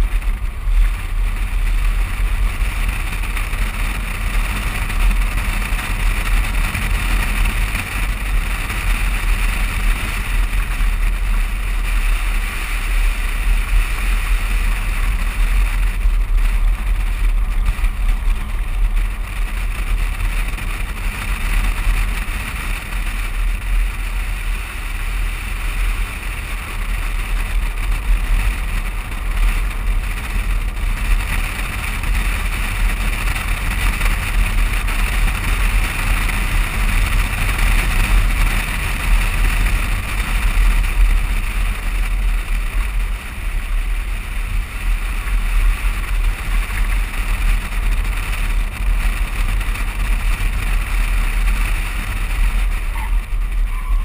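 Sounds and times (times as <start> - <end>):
tyre and road noise: 0.0 - 54.0
wind buffeting camera: 0.0 - 54.0.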